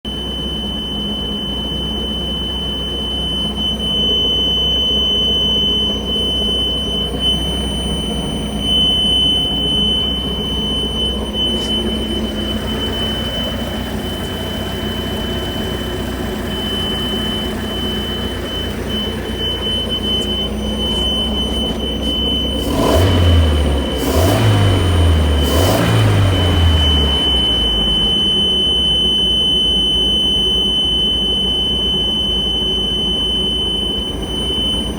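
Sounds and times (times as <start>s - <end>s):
boat engine running: 0.0s - 34.9s
high-pitched warning beeper: 0.1s - 34.9s.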